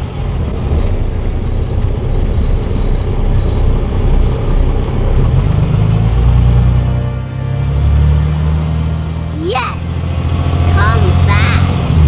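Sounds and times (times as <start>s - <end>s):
cartoon buggy engine rumble: 0.0s - 12.0s.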